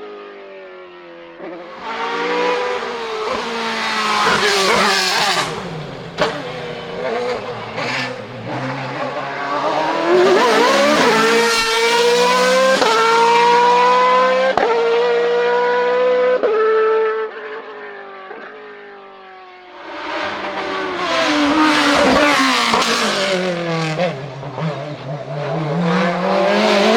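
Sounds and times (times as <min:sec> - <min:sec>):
race car engine at high revs: 0:00.0 - 0:26.9.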